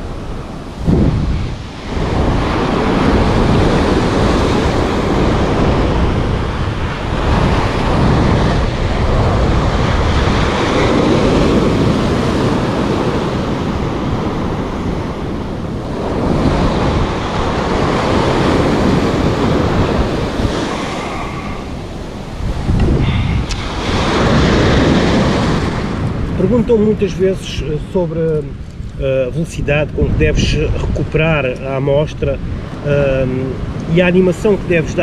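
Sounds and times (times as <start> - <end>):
surf breaking on beach: 0.0 - 28.6
wind buffeting microphone: 0.0 - 35.0.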